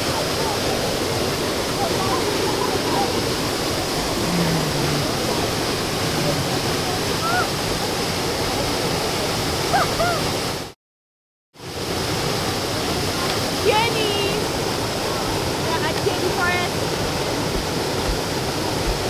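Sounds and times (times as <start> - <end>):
waterfall rushing: 0.0 - 10.7, 11.6 - 19.0.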